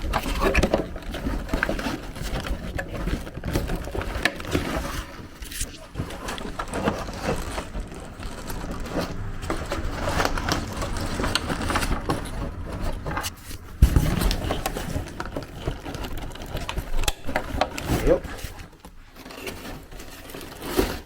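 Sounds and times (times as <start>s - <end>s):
plastic trim scraping and clicking: 0.0s - 21.0s.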